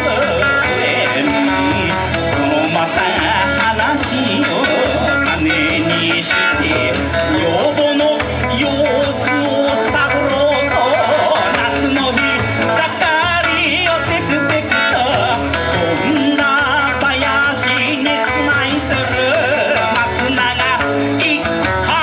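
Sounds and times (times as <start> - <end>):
folk song with wavering melody: 0.0 - 22.0.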